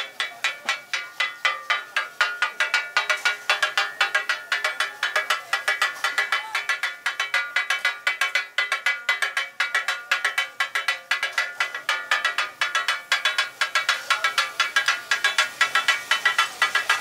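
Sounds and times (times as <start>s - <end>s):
steel spatulas clanging on griddle: 0.0s - 17.0s.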